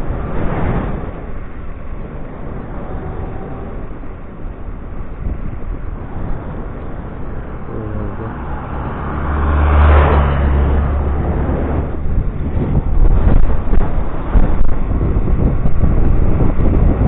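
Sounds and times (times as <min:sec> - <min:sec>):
low hum: 0:00.0 - 0:17.0
wind on microphone: 0:00.0 - 0:17.0.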